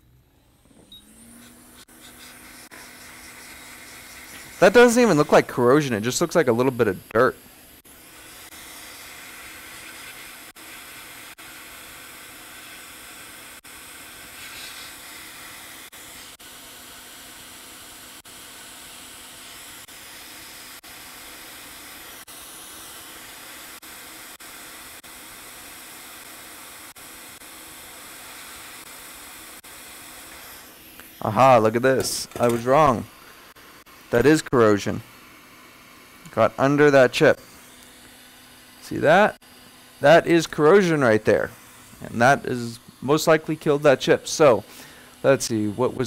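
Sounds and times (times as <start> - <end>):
hot air blower hissing: 0.0 - 46.0.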